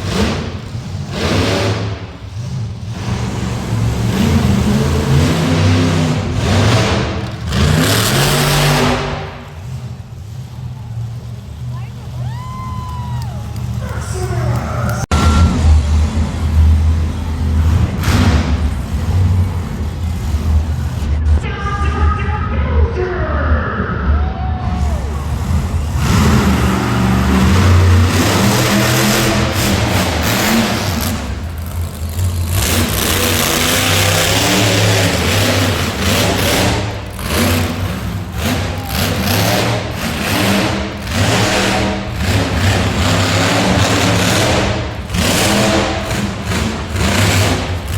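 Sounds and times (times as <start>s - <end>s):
monster truck engine rumbling: 0.0s - 47.9s.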